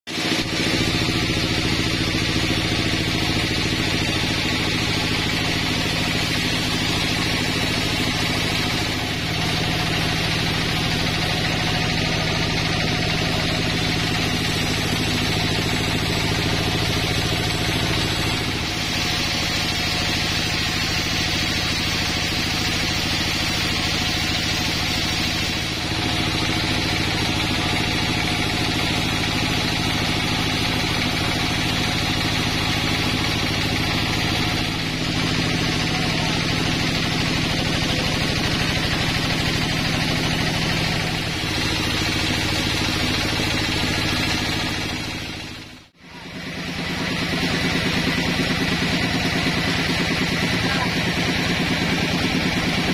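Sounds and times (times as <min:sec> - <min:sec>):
sawmill saw cutting log: 0:00.1 - 0:52.9.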